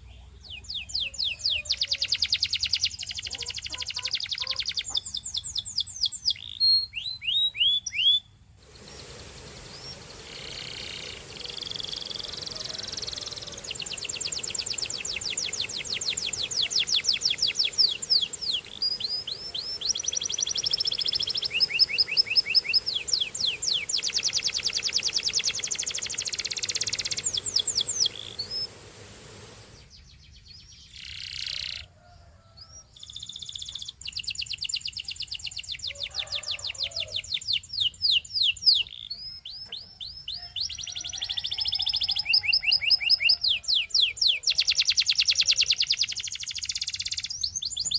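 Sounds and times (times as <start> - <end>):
canary singing trills: 0.0 - 28.8, 29.7 - 31.9, 32.5 - 47.9.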